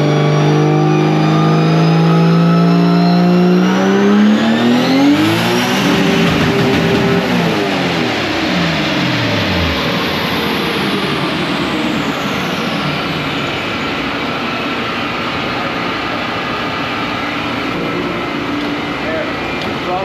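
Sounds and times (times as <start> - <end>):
car engine: 0.0 - 20.0
high whine sliding down: 0.0 - 20.0
road noise: 3.3 - 20.0.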